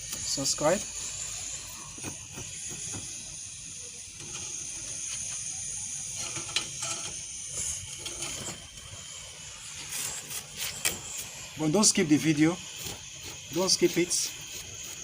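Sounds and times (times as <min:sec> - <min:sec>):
fire crackles: 0:00.0 - 0:15.0
fire hissing: 0:00.0 - 0:15.0.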